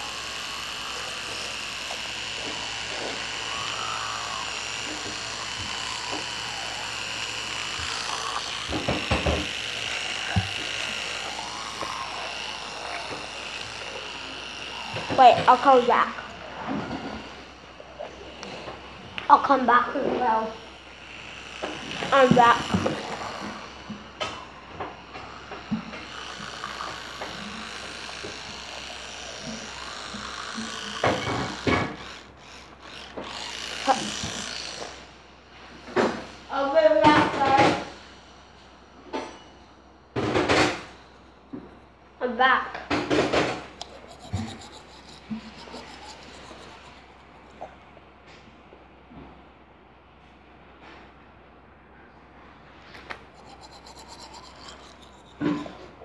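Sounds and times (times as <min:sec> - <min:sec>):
electric toothbrush buzzing: 0:00.0 - 0:48.0, 0:52.8 - 0:56.0.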